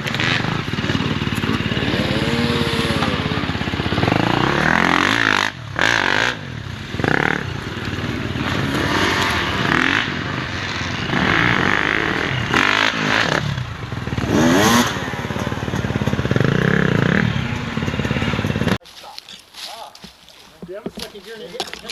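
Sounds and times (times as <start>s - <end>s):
dirt bike engine revving: 0.0s - 18.8s.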